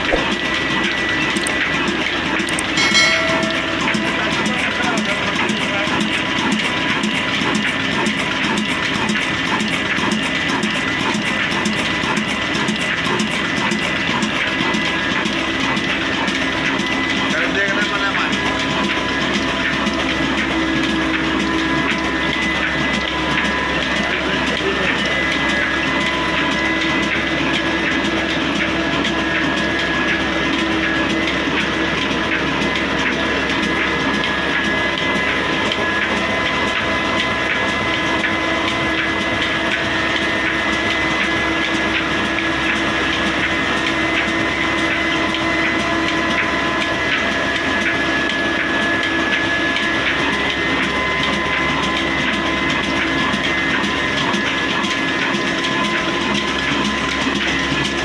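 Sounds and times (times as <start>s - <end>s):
diesel engine clattering: 0.0s - 58.0s.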